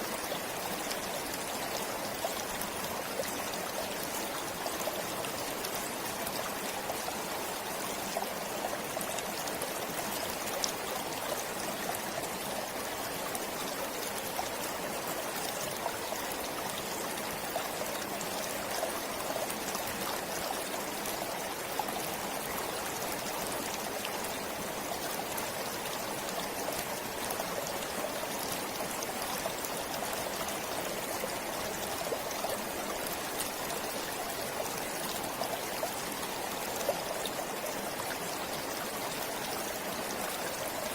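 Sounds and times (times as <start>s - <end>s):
stream flowing: 0.0s - 40.9s
water splashes and trickles: 0.0s - 40.9s.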